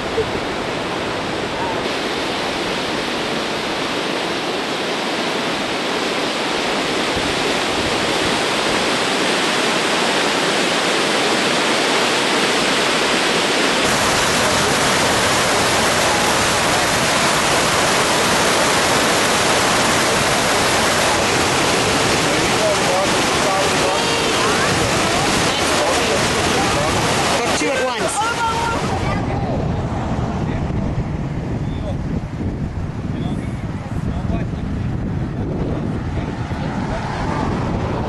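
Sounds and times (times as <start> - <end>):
floodwater rushing roar: 0.0 - 38.0.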